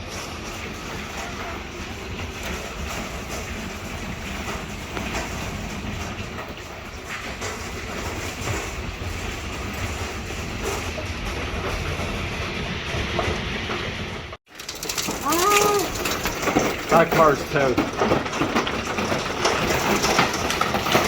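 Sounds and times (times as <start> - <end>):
hail beating on house: 0.0 - 21.0.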